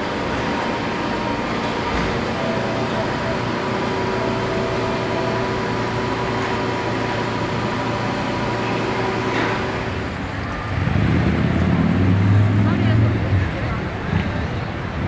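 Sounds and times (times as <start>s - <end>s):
underground train platform hum: 0.0s - 15.0s.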